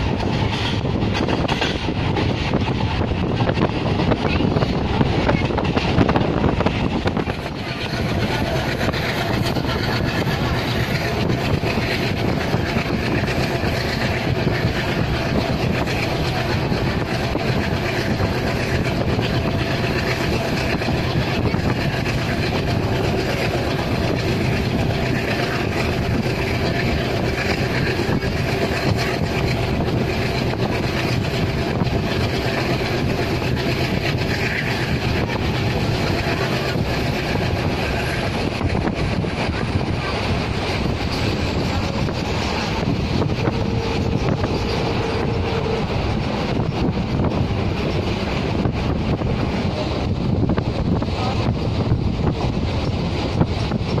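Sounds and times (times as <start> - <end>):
diesel locomotive chugging: 0.0 - 54.0
train wheels rumbling: 0.0 - 54.0.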